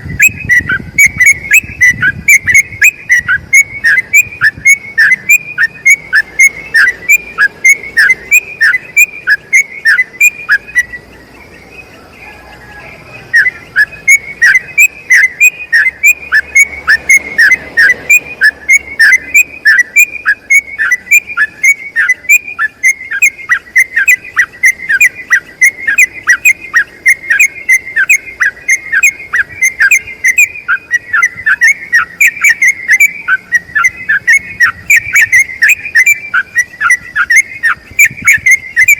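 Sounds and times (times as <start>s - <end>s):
bulbul singing rapid falling notes: 0.0s - 38.9s.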